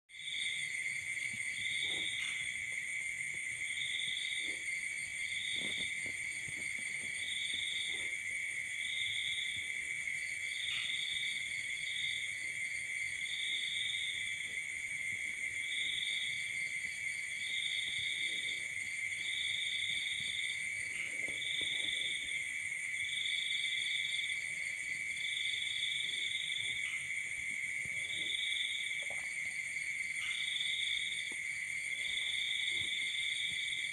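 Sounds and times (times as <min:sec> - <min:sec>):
insects trilling: 0:00.1 - 0:33.9
pulsed insect chirp: 0:00.2 - 0:33.9.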